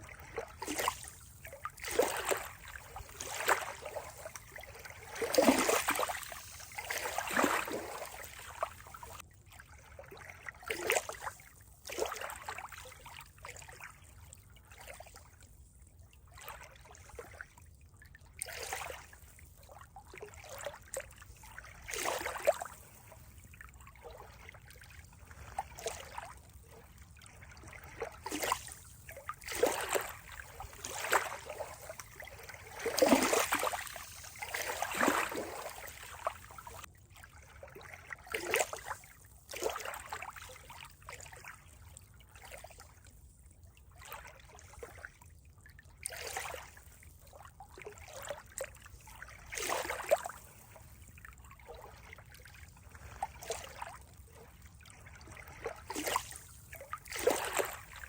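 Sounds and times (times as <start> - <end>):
faint steady water wash: 0.0 - 58.0
water splashing and trickling: 0.0 - 58.0.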